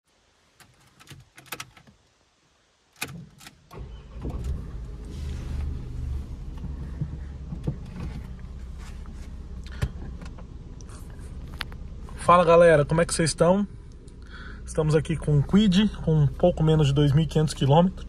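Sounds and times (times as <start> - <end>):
car engine starting and idling: 3.0 - 18.0.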